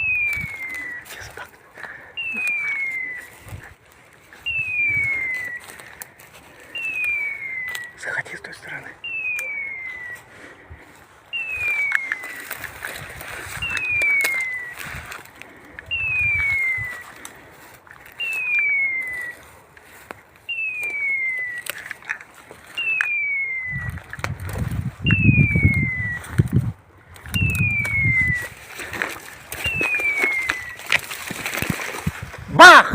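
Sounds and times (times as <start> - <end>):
footsteps through wet undergrowth: 0.0 - 32.6.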